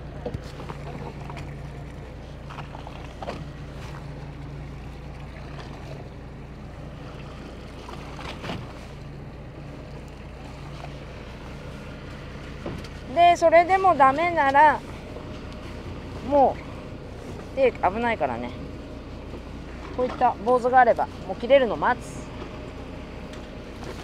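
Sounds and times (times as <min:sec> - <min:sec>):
boat engine humming: 0:00.0 - 0:24.0
water noise: 0:00.0 - 0:24.0
wind: 0:00.0 - 0:24.0.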